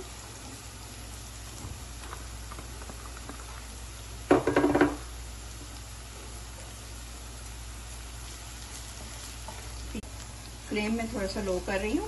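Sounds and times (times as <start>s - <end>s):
onions sizzling in oil: 0.0s - 12.0s
chillies pattering into pan: 0.1s - 11.0s.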